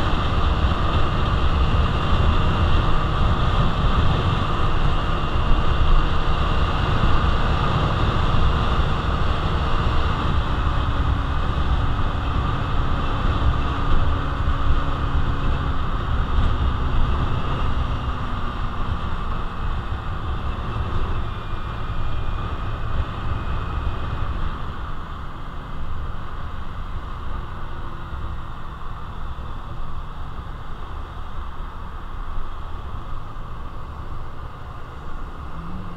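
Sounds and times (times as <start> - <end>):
wind and road noise: 0.0 - 35.9.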